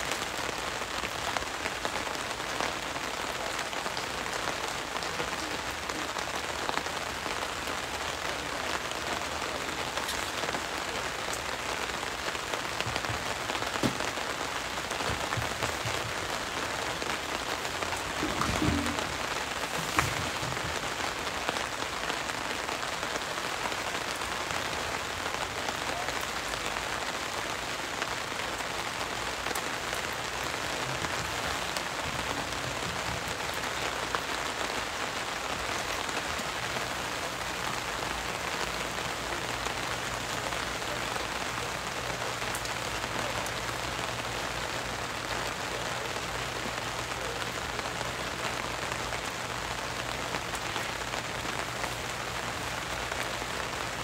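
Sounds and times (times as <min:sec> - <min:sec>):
outdoor hiss: 0:00.0 - 0:54.0.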